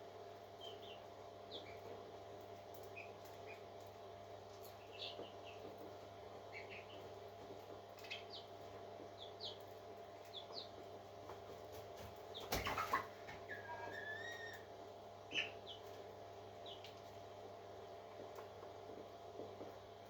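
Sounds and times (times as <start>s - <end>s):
parrot chicks peeping: 0.4s - 17.3s.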